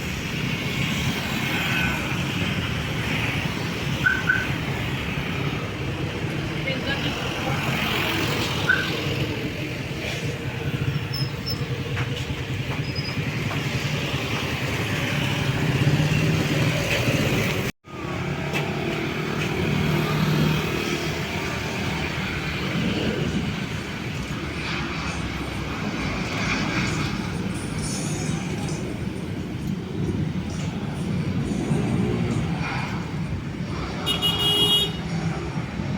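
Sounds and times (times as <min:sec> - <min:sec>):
vehicle engines humming: 0:00.0 - 0:35.9.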